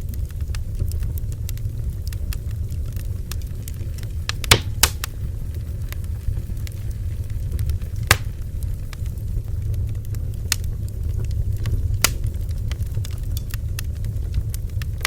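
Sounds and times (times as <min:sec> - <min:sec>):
low rumble of flames: 0:00.0 - 0:15.0
wood crackles and pops: 0:00.0 - 0:15.0.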